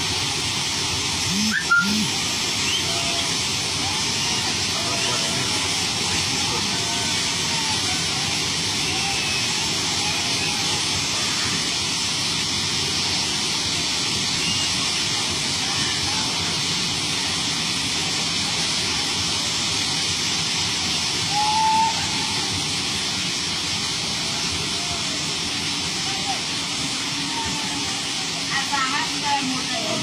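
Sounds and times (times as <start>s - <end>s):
rushing floodwater and rain: 0.0s - 30.0s.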